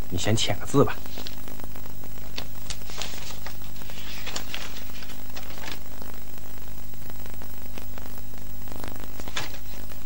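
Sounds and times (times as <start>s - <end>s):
faint crackles and clicks: 0.0s - 10.0s
low hum and hiss: 0.0s - 10.0s.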